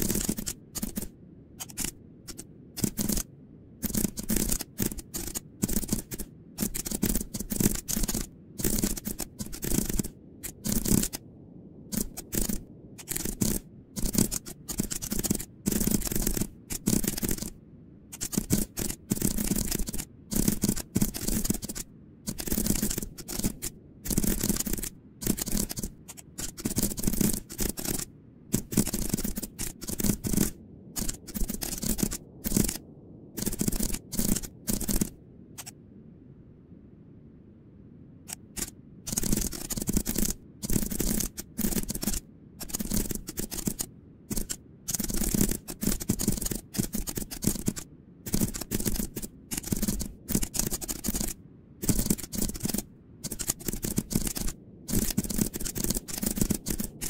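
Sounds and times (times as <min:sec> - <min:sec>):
computer keyboard typing: 0:00.0 - 0:11.2, 0:11.9 - 0:32.8, 0:33.4 - 0:35.7, 0:38.3 - 0:57.0.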